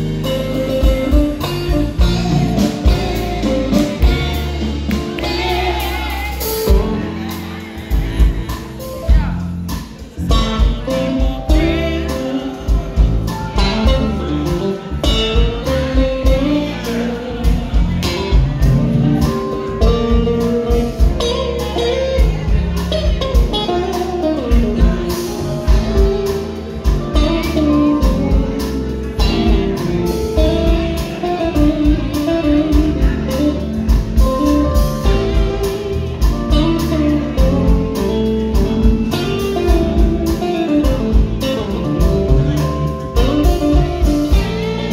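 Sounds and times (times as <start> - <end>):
guitar notes bending: 0.0 - 44.9
live blues band playing: 0.0 - 44.9.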